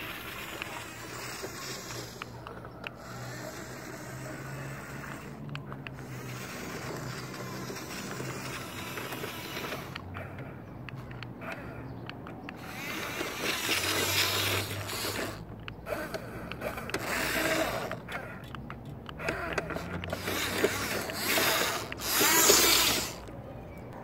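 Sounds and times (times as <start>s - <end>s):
toy truck motor whining: 0.0s - 24.0s
tyres grinding over sandy dirt: 0.0s - 24.0s.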